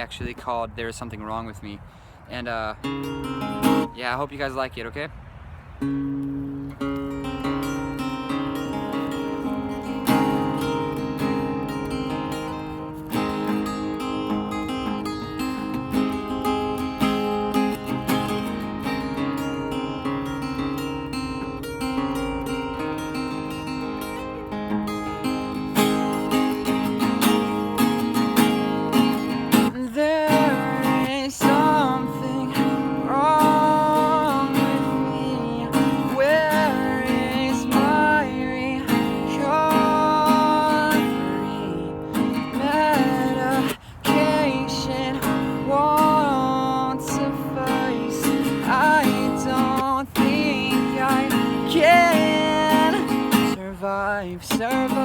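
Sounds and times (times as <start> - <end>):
acoustic guitar strumming: 2.8 - 4.2, 5.8 - 55.0
wordless melody line: 2.8 - 4.3, 5.8 - 55.0.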